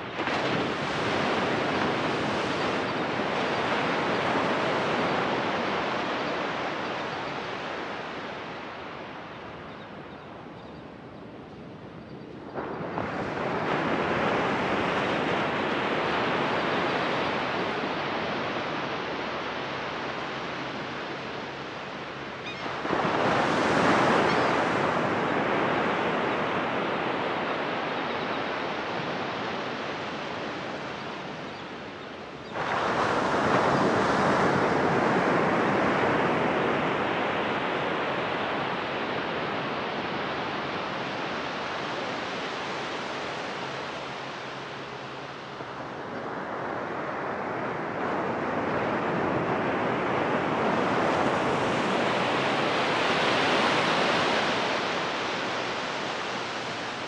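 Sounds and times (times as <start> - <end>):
ocean waves crashing on beach: 0.0 - 11.0, 11.6 - 57.0.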